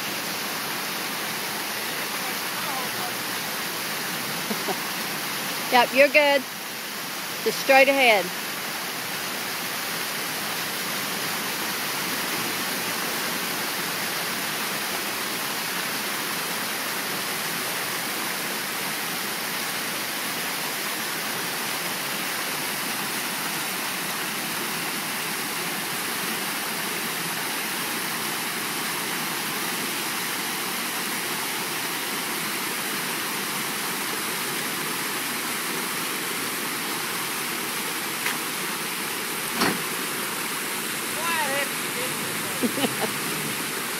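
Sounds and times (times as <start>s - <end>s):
creek water rushing over rocks: 0.0s - 43.9s.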